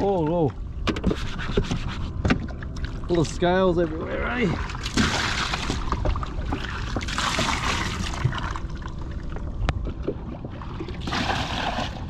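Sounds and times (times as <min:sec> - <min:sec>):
water splashing around kayak: 0:00.0 - 0:12.0.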